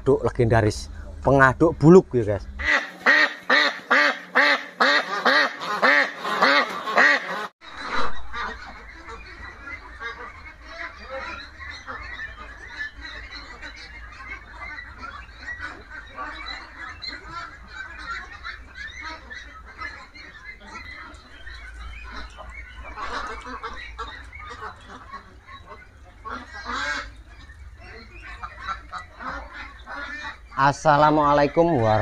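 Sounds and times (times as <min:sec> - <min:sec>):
steady low rumble: 0:00.0 - 0:02.8, 0:07.6 - 0:32.0
flock of ducks calling: 0:00.0 - 0:32.0
honking calls: 0:01.7 - 0:32.0.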